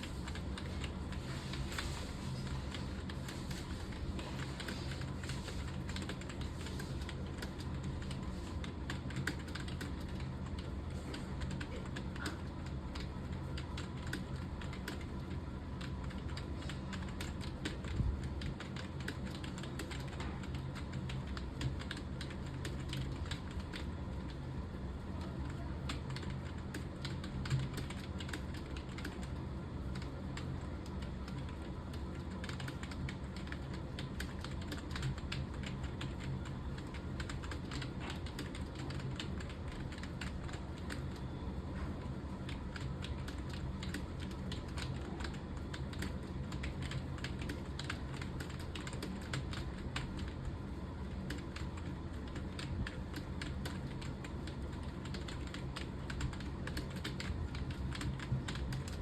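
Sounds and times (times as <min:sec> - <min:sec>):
fast typing on keyboard: 0:00.0 - 0:59.0
steady low hum: 0:00.0 - 0:59.0.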